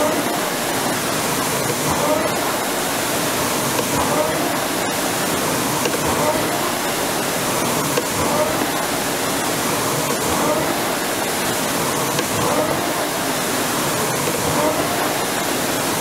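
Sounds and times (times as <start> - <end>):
rower fan flywheel whirring: 0.0 - 16.0.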